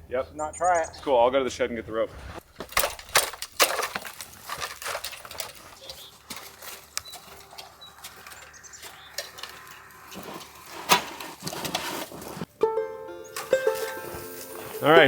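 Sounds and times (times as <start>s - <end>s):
footsteps crunching in snow: 0.8s - 12.5s, 13.2s - 15.0s.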